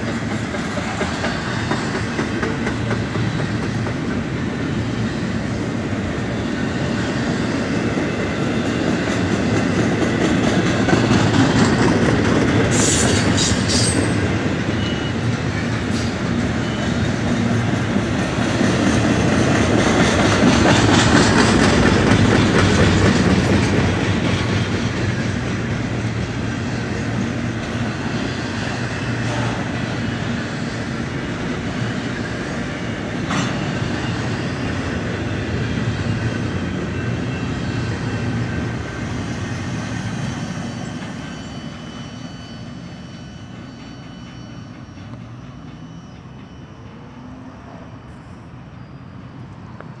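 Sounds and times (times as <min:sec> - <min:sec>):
freight train rolling past: 0:00.0 - 0:50.0.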